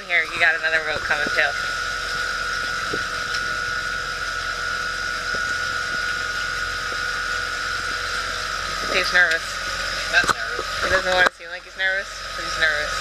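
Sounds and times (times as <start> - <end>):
boat motor whining: 0.0 - 13.0.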